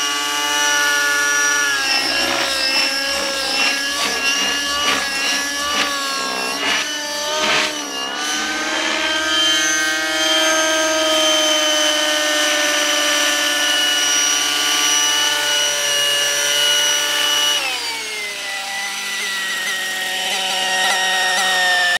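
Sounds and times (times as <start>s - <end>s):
model helicopter rotor whining: 0.0s - 21.9s.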